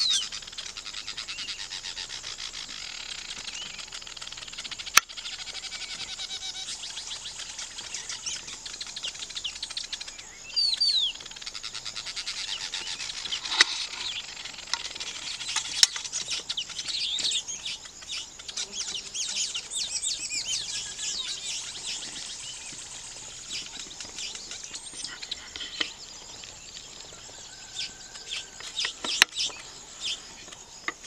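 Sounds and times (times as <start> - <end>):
birds chattering: 0.0 - 31.0.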